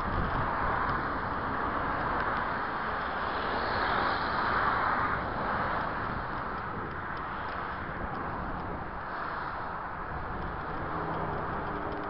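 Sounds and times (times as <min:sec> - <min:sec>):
road traffic rushing: 0:00.0 - 0:12.0.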